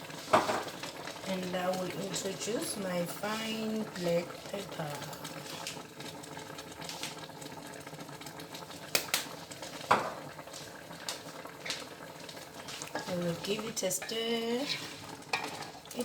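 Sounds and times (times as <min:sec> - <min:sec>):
pot simmering: 0:00.0 - 0:16.0.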